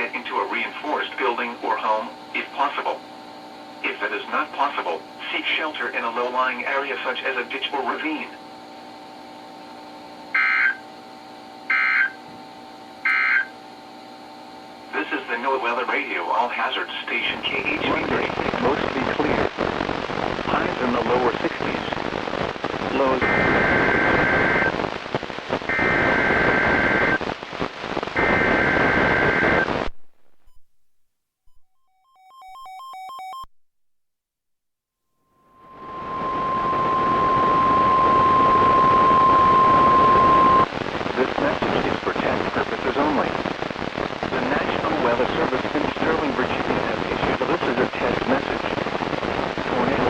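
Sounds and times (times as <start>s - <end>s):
heavy static hiss: 0.0s - 30.4s, 35.4s - 50.0s
faint receiver hum: 0.0s - 30.9s, 35.5s - 50.0s.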